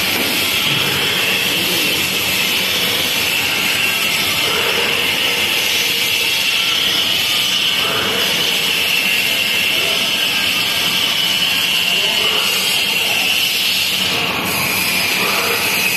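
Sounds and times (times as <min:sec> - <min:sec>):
machine hiss with high whine: 0:00.0 - 0:15.9.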